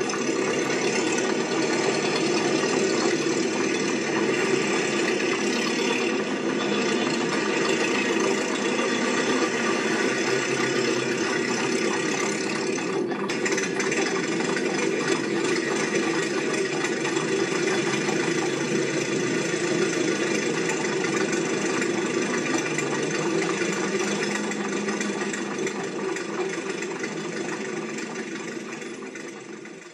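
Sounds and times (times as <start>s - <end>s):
motor running steadily: 0.0s - 29.9s.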